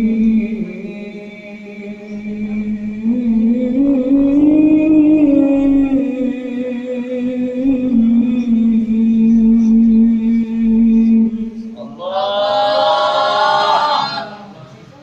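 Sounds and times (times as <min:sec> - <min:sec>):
man chanting melodically: 0:00.0 - 0:14.6.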